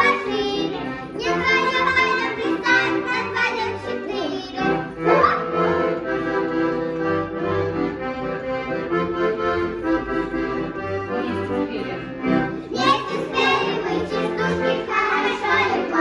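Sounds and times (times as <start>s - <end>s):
accordion dance tune: 0.0s - 16.0s.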